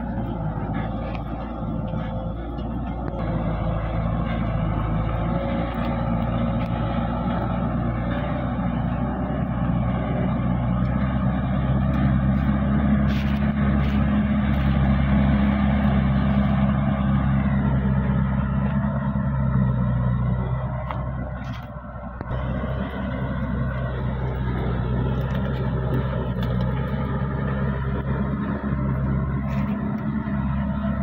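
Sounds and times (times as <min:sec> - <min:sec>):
truck engine labouring uphill: 0:00.0 - 0:31.0.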